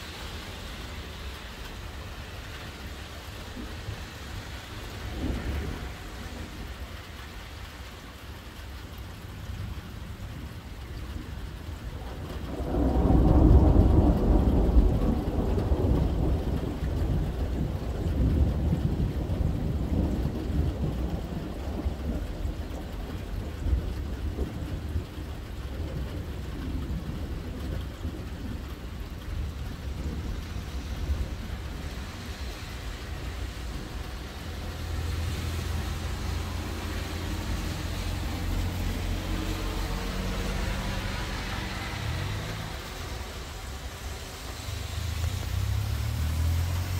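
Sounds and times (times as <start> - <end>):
thunder rumbling: 0.0 - 7.6, 8.6 - 46.9
car tyres hissing on wet road: 0.0 - 46.9
steady rain: 0.0 - 46.9.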